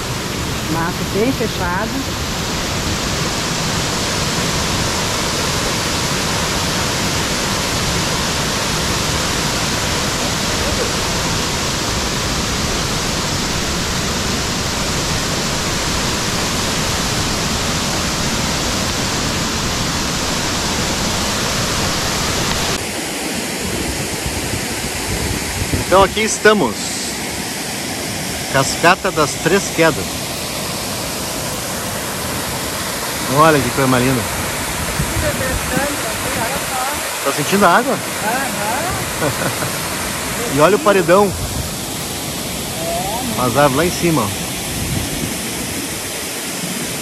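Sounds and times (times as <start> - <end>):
water flowing over rocks: 0.0 - 47.0
waterfall rushing: 0.0 - 47.0.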